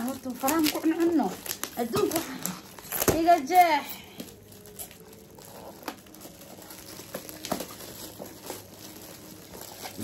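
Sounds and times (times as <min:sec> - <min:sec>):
gift wrapping crinkling: 0:00.0 - 0:10.0.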